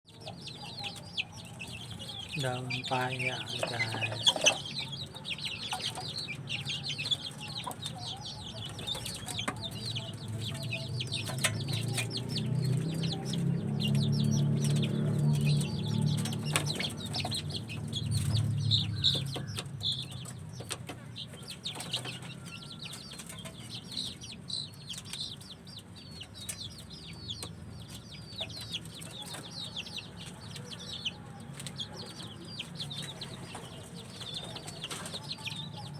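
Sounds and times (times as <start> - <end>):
chickens clucking: 0.1 - 35.9.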